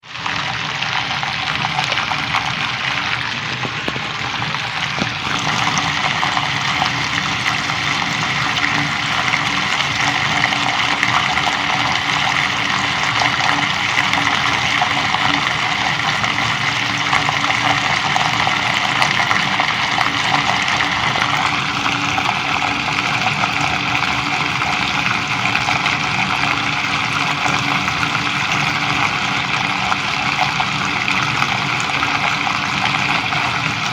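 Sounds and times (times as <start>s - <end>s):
water rushing out of a pipe: 0.0s - 33.9s.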